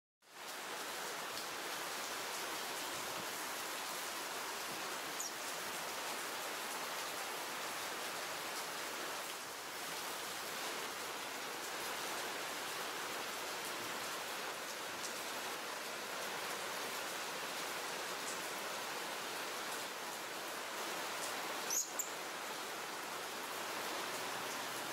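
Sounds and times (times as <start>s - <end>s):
outdoor background hiss: 0.2s - 24.9s.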